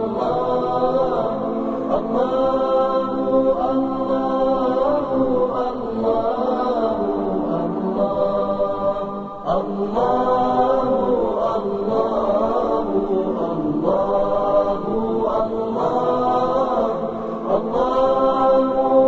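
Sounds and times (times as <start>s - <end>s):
person singing wordless long notes: 0.0s - 19.0s.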